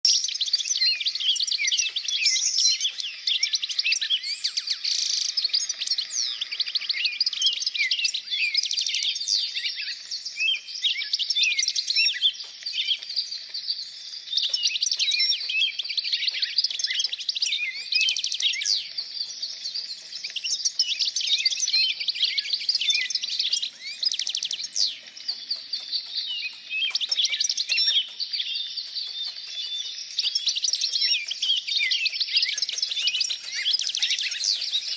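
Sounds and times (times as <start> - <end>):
small birds chirping and singing: 0.0 - 34.9.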